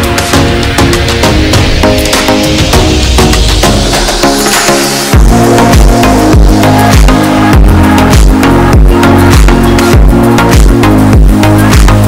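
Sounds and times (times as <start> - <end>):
electronic music with steady beat: 0.0 - 12.0
sustained synth notes: 0.0 - 12.0
deep sliding bass hits: 0.6 - 12.0.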